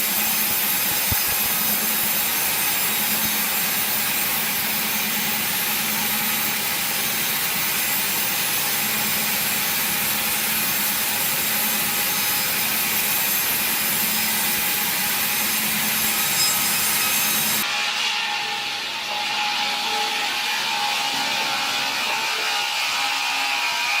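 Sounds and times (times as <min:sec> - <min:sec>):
machine saw cutting wood: 0:00.0 - 0:24.0.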